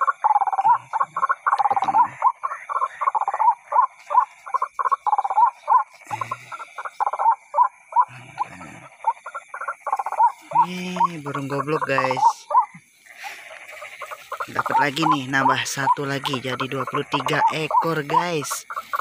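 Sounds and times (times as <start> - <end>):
bird calls from a bird caller: 0.0 - 19.0.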